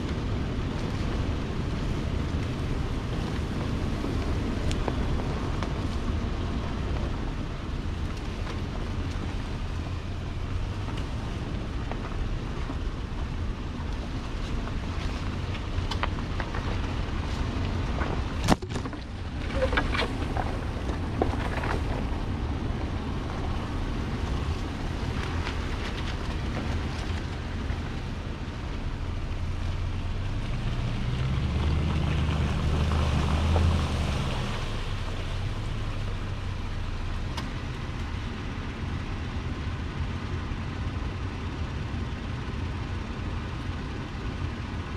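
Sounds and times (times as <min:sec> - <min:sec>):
vehicle engine drone: 0:00.0 - 0:44.9.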